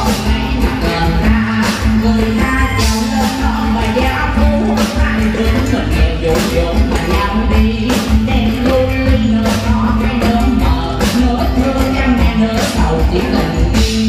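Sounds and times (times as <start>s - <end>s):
person singing into microphone: 0.0s - 14.0s.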